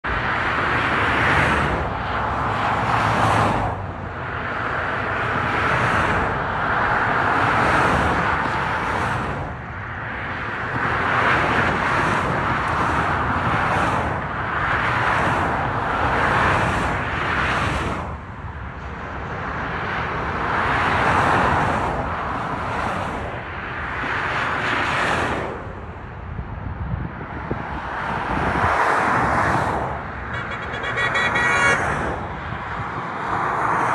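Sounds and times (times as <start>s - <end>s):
cars passing at speed: 0.0s - 33.9s.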